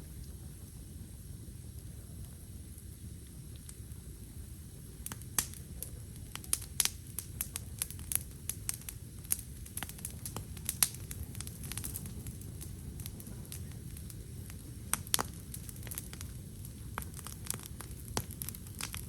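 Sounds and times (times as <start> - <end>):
campfire crackling and popping: 0.0 - 19.0
low background rumble: 0.0 - 19.0.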